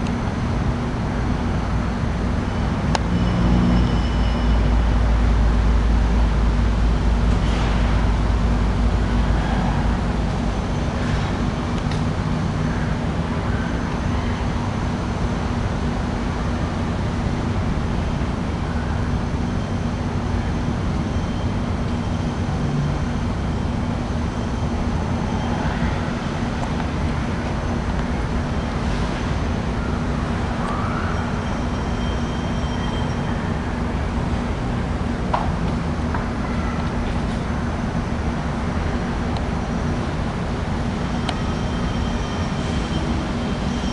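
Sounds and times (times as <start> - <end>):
air conditioner humming: 0.0 - 43.9
fan rumble: 0.0 - 43.9.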